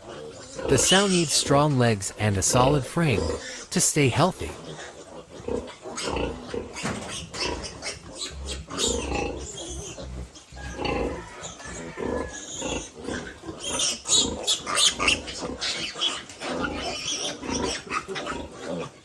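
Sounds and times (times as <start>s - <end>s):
pigs grunting: 0.0s - 19.0s.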